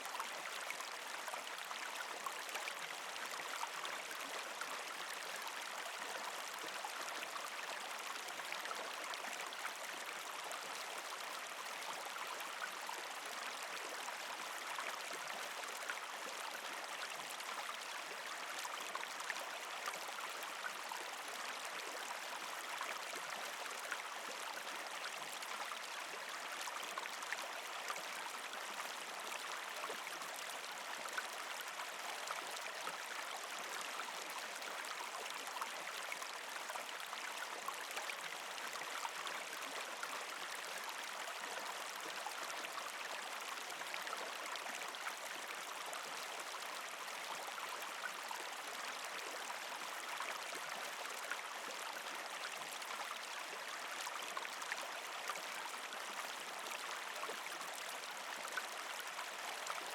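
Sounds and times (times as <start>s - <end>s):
creek water flowing over rocks: 0.0s - 59.9s.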